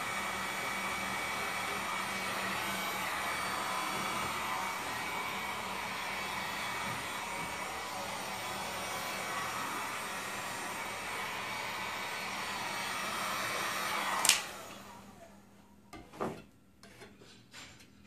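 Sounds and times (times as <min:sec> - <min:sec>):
heat gun blowing: 0:00.0 - 0:15.4.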